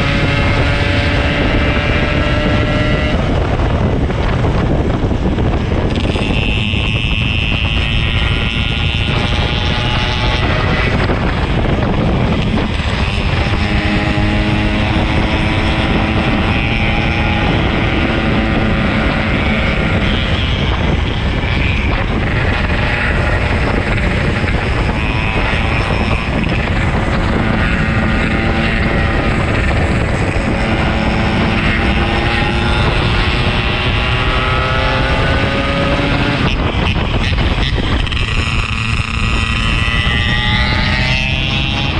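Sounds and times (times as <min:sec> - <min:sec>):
motorcycle engine accelerating: 0:00.0 - 0:41.9
road noise: 0:00.0 - 0:41.9
wind noise: 0:00.0 - 0:41.9.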